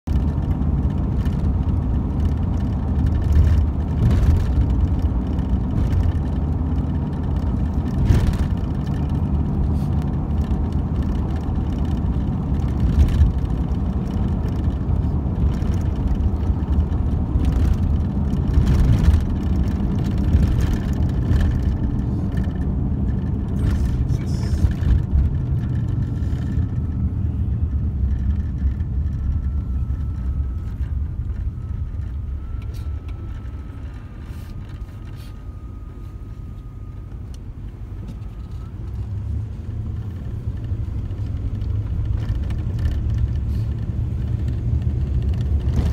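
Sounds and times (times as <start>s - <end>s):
engine and tyres rumbling: 0.0s - 45.9s.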